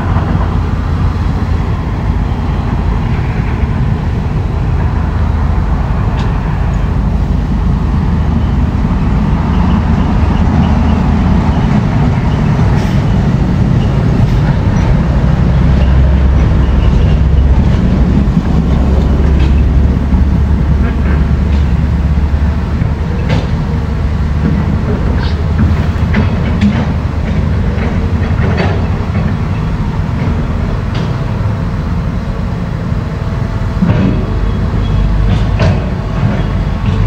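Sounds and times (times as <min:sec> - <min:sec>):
heavy diesel machinery rumbling: 0:00.0 - 0:37.0.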